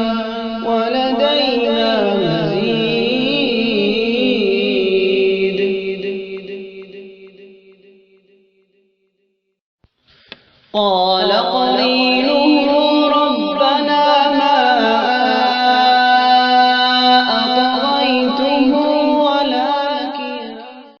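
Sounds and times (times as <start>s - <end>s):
person chanting melismatically: 0.0s - 7.7s, 10.7s - 21.0s.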